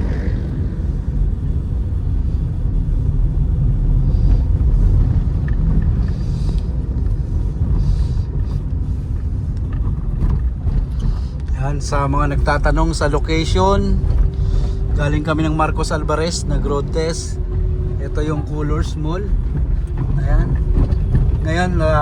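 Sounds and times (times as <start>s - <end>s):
engine and road noise rumble: 0.0s - 22.0s.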